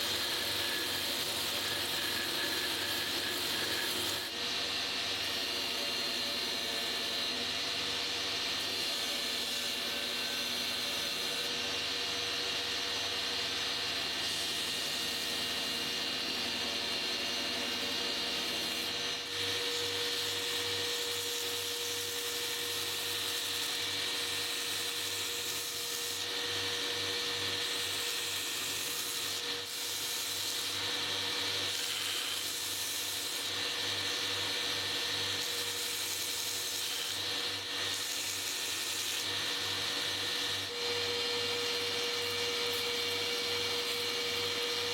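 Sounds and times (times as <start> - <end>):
power tool running: 0.0 - 44.9.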